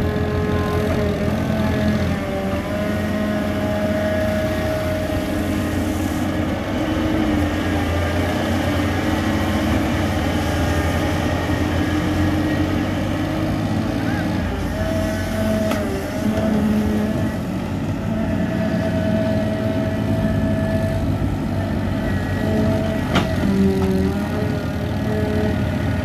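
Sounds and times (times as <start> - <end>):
excavator diesel engine running: 0.0 - 26.0
hydraulic whine: 0.0 - 26.0.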